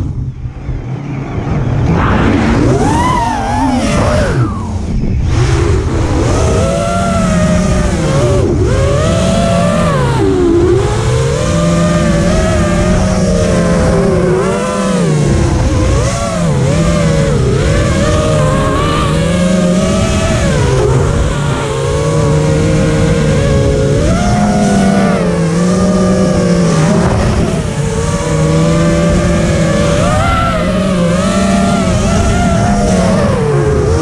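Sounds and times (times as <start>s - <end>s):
quadcopter motors whining: 0.0s - 34.0s
wind rushing past camera: 0.0s - 34.0s.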